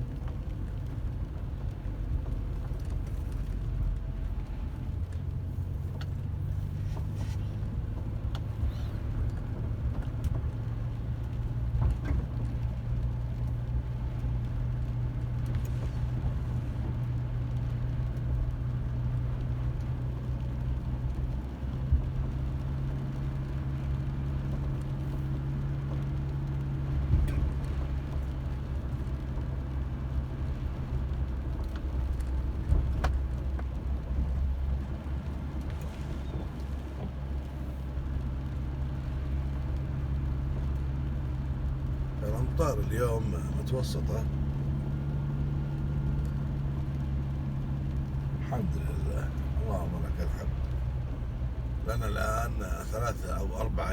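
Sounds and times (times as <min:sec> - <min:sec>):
car engine and road drone: 0:00.0 - 0:53.9.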